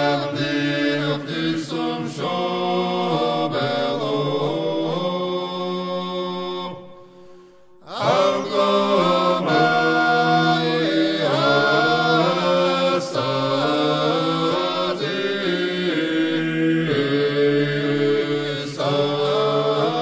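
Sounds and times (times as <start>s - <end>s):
unaccompanied choir chanting: 0.0s - 7.2s, 7.8s - 20.0s.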